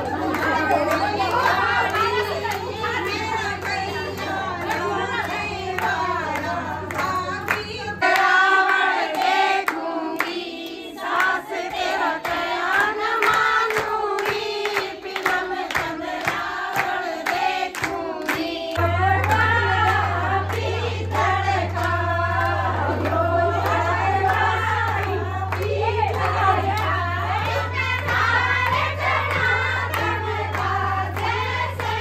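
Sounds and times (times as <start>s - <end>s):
rhythmic hand-clapping: 0.0s - 32.0s
women singing folk song: 0.0s - 32.0s.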